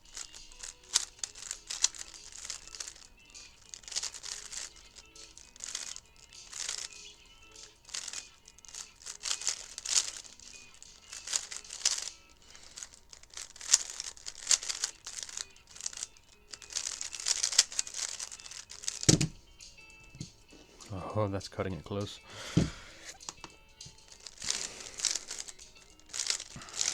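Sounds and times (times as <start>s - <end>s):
puzzle cube plastic clicks: 0.0s - 21.0s, 21.8s - 26.9s
faint background music: 0.0s - 26.9s.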